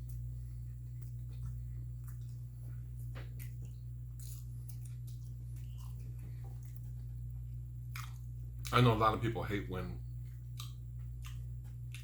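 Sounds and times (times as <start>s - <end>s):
person chewing food: 0.0s - 8.8s, 10.1s - 12.0s
steady low hum: 0.0s - 12.0s.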